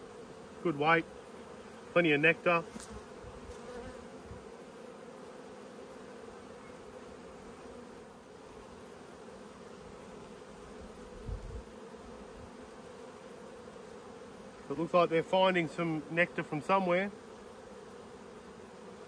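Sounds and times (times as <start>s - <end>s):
honey bees humming: 0.0s - 19.0s.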